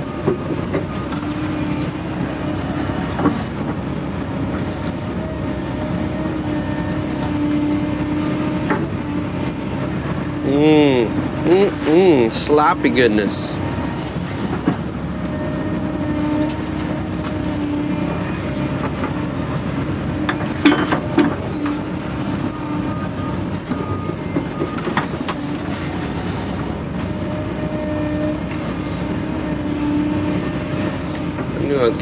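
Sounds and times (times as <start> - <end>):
excavator engine and hydraulics: 0.0 - 32.0
hydraulic whine: 0.0 - 32.0.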